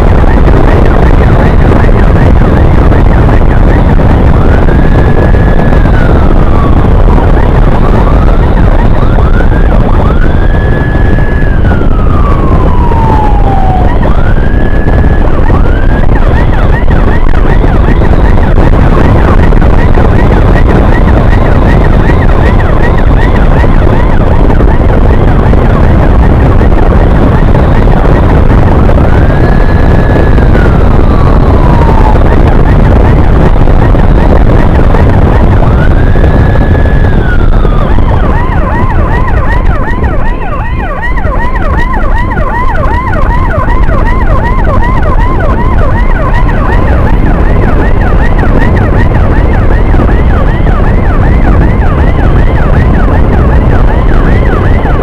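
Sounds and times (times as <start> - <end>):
emergency siren: 0.0 - 55.0
wind noise: 0.0 - 55.0.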